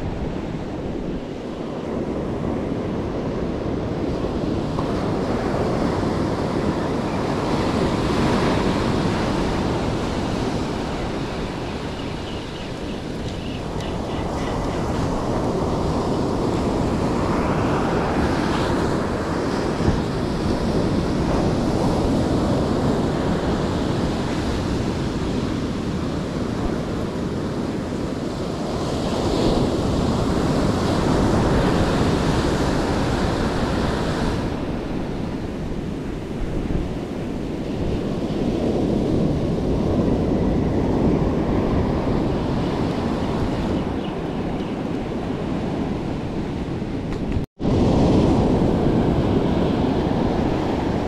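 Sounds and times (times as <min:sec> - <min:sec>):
surf breaking on a beach: 0:00.0 - 0:51.0
wind buffeting microphone: 0:00.0 - 0:51.0.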